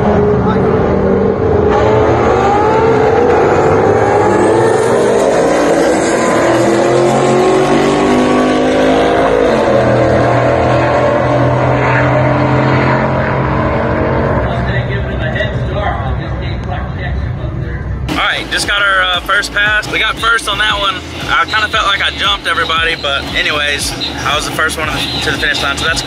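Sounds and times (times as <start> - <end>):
cars accelerating at full throttle: 0.0 - 26.0.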